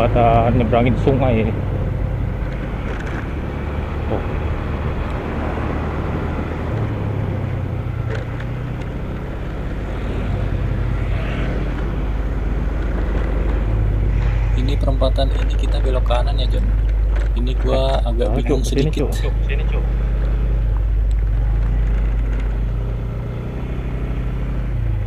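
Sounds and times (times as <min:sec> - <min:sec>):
wind and road noise: 0:00.0 - 0:25.0.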